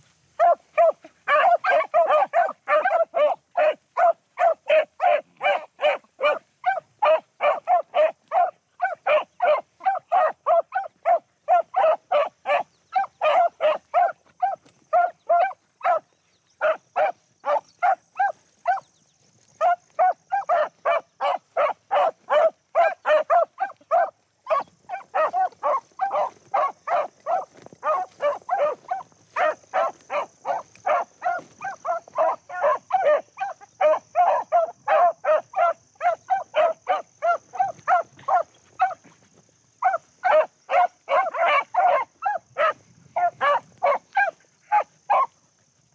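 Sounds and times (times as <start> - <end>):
dogs baying: 0.3 - 39.2, 39.8 - 45.4.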